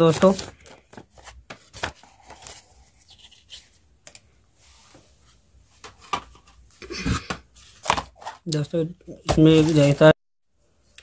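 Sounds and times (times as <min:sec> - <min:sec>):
paper and cardboard rustling: 0:00.0 - 0:08.5, 0:09.1 - 0:10.2.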